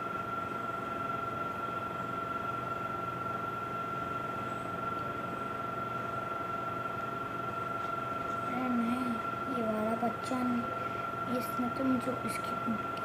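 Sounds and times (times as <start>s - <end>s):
high whine: 0.0s - 13.0s
steady mechanical hum: 0.0s - 13.0s.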